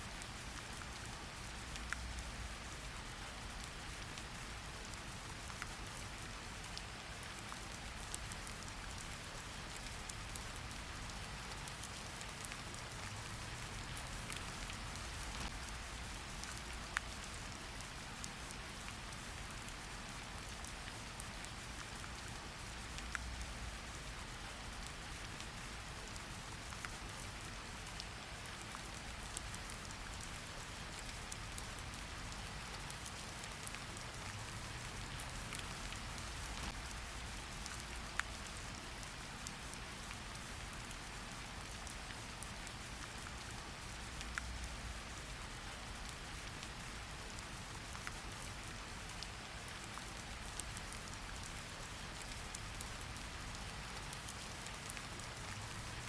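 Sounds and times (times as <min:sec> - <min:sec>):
raindrops ticking on a surface: 0:00.0 - 0:56.0
steady rain hiss: 0:00.0 - 0:56.0.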